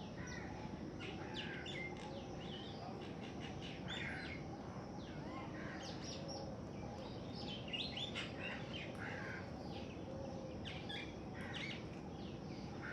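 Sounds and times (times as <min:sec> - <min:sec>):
low background noise: 0:00.0 - 0:12.9.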